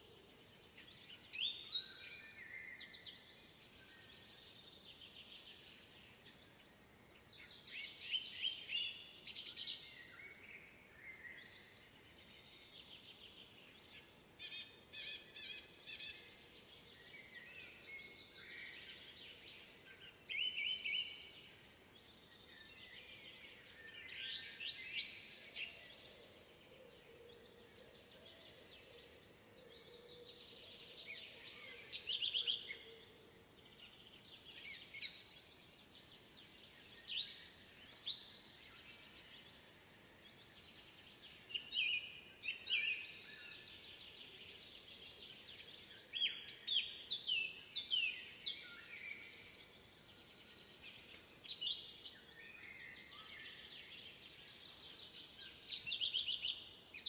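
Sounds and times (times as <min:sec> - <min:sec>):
faint steady background noise: 0:00.0 - 0:57.0
songbirds chirping and trilling: 0:00.0 - 0:57.0.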